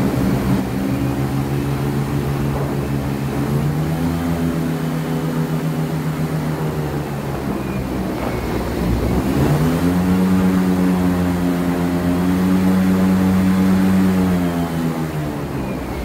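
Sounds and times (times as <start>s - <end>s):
airboat engine and propeller: 0.0s - 16.0s.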